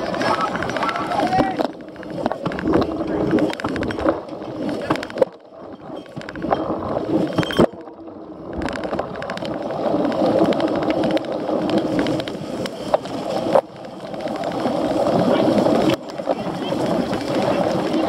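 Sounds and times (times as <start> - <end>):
bike tyre and frame rattle: 0.0 - 18.0.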